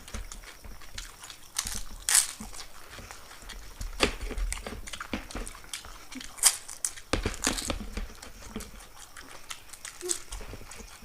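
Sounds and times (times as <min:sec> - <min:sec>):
crisp shells crunching: 0:00.0 - 0:11.0.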